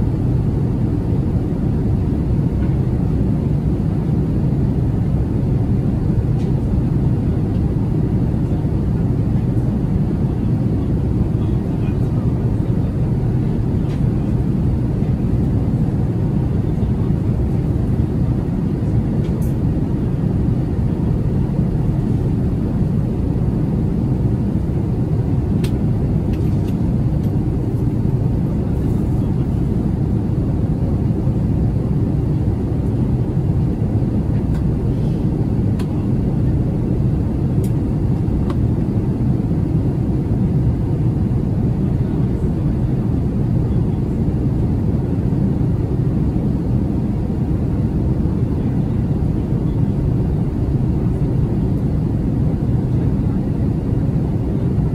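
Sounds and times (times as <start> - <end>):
airplane cabin rumble: 0.0 - 54.9.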